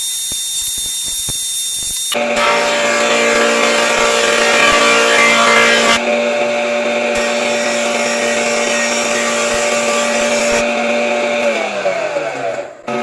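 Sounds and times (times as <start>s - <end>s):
electric motor whining: 0.0s - 6.2s, 7.0s - 13.0s.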